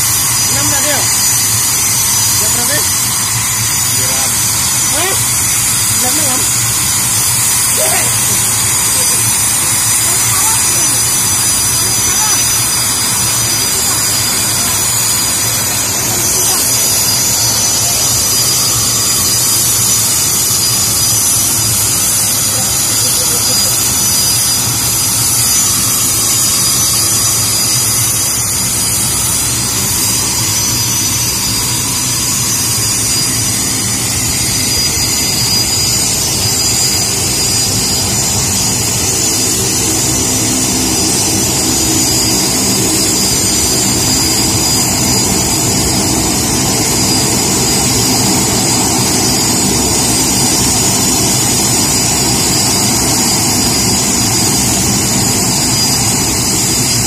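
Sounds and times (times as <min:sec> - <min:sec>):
jet engine high whine: 0:00.0 - 0:57.0.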